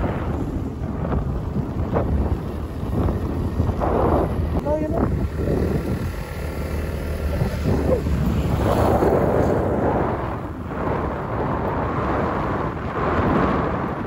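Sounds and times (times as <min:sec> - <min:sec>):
vehicle rumble: 0:00.0 - 0:14.0
wind buffeting microphone: 0:00.0 - 0:14.0.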